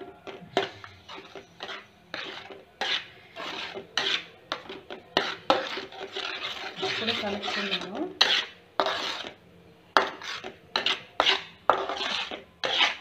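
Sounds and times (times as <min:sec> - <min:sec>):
metal spatula scraping pan: 0:00.0 - 0:09.4, 0:10.0 - 0:13.0.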